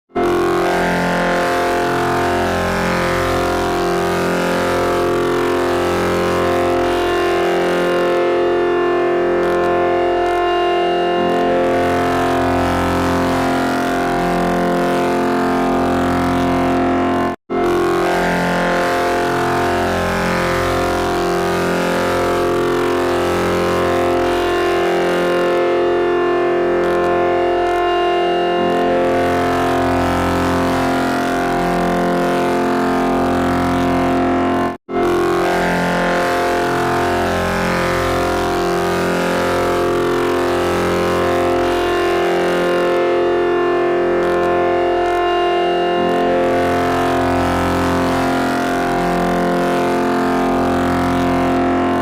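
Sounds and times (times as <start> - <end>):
electronic drone of layered tones: 0.1 - 52.0.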